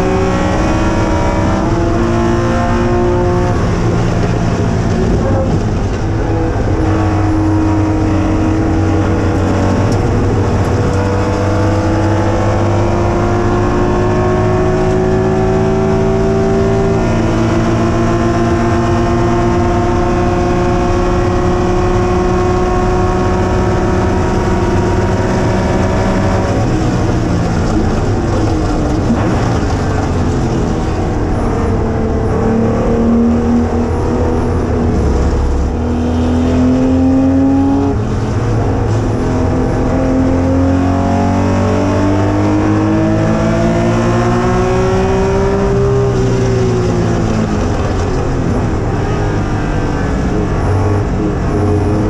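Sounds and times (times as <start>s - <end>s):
race car engine in cabin: 0.0s - 52.0s.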